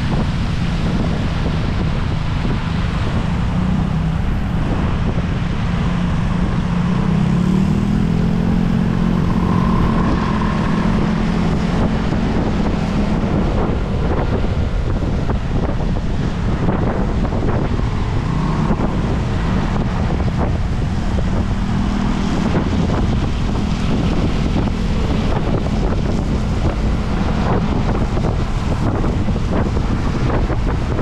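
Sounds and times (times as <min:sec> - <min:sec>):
wind buffeting the microphone: 0:00.0 - 0:31.0.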